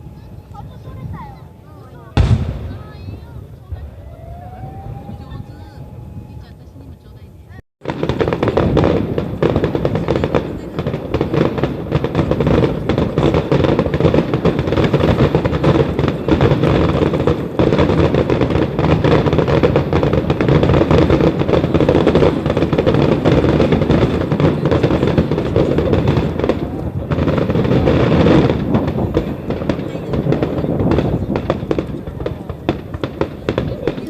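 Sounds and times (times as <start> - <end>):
fireworks bangs and crackle: 0.0 - 7.2, 7.8 - 34.0.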